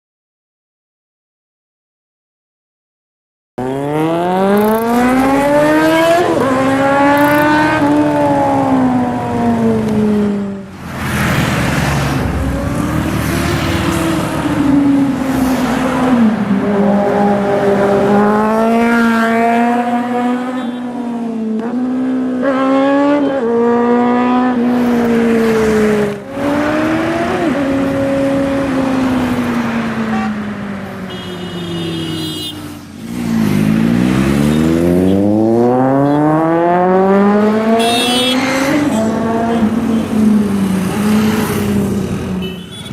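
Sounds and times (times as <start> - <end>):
motorcycle engines revving: 3.6 - 42.9.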